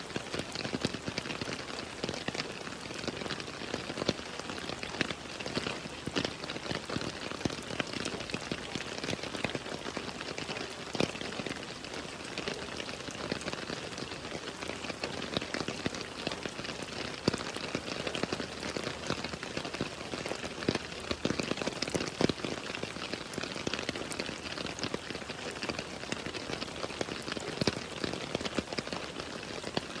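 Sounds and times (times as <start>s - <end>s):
rain patter on a surface: 0.0s - 30.0s.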